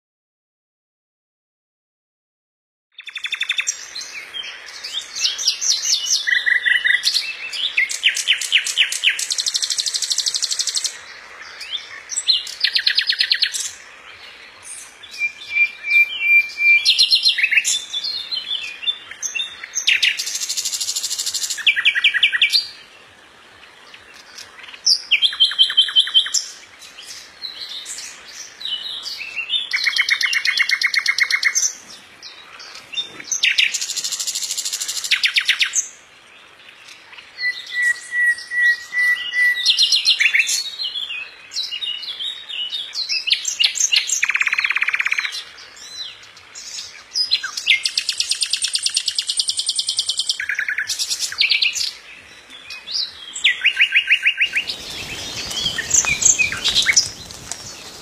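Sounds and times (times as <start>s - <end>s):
nightingale singing: 2.9s - 23.0s, 23.6s - 58.0s.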